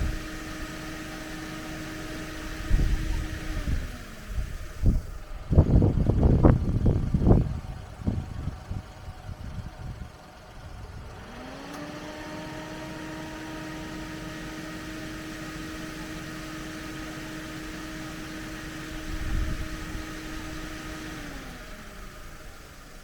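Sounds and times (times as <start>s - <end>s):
engine revving: 0.0s - 7.4s, 11.1s - 23.0s.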